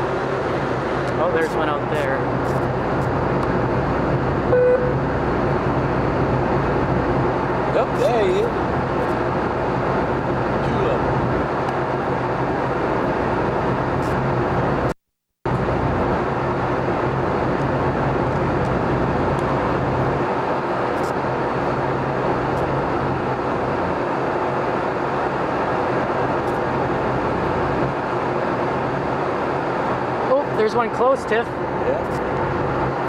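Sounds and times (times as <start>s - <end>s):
ferry engine drone: 0.0s - 33.0s.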